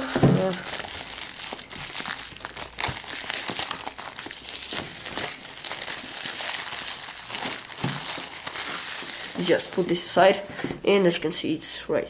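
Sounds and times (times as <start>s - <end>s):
plastic film tearing and crinkling: 0.0s - 10.0s.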